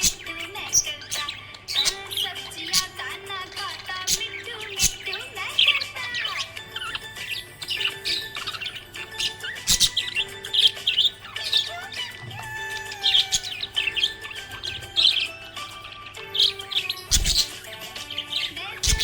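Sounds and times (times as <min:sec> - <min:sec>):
background music: 0:00.0 - 0:19.0
budgerigar chirping and warbling: 0:00.0 - 0:19.0.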